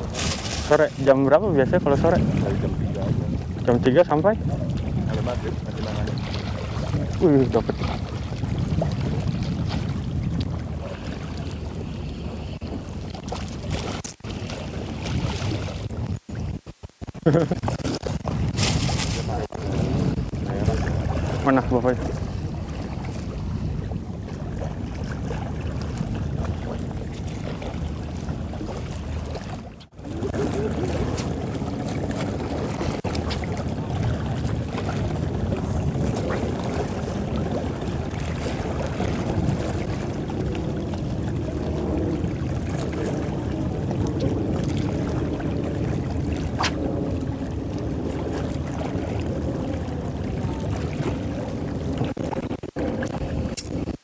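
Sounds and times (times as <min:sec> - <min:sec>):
choppy water: 0:00.0 - 0:54.0
wind: 0:00.0 - 0:54.0.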